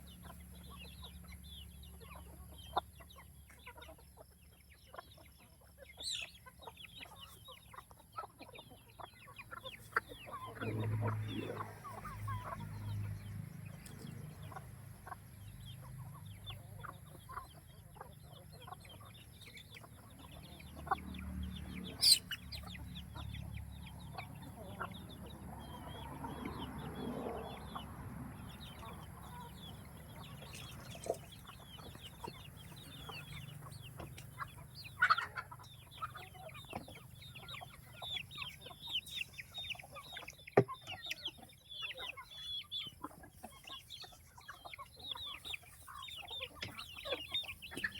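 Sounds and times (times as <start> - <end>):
chickens clucking and chirping: 0.0 - 47.9.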